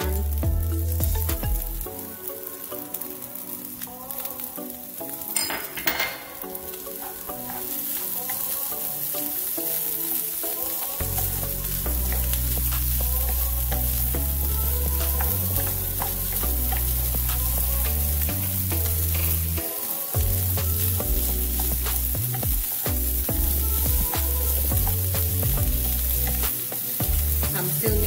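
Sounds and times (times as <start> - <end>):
rice sizzling in hot pan: 0.0 - 28.0.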